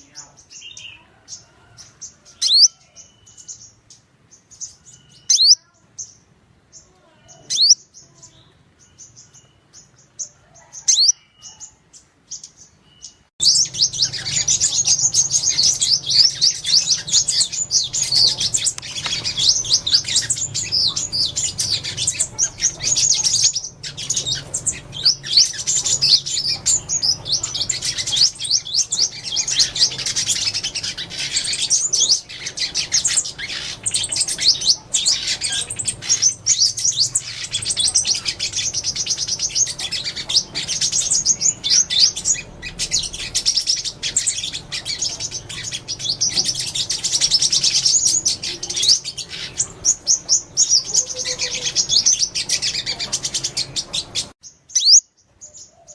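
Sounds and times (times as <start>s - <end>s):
many birds chattering: 0.0s - 55.9s
sunbirds chirping: 0.0s - 55.9s.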